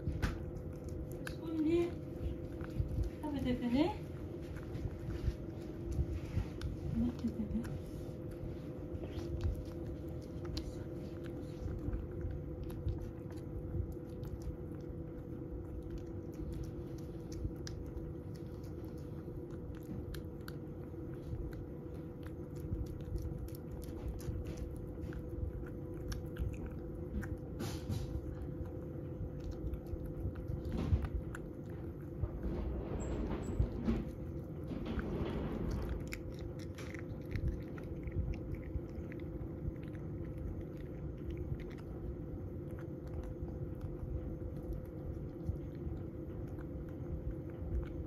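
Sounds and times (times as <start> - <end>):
cat chewing and lapping food: 0.0 - 48.0.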